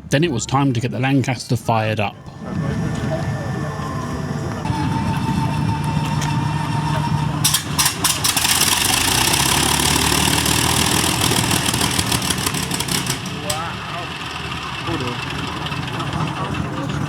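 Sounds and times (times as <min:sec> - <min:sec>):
steady hum: 0:00.0 - 0:17.0
aircraft engine starting and running: 0:01.4 - 0:17.0.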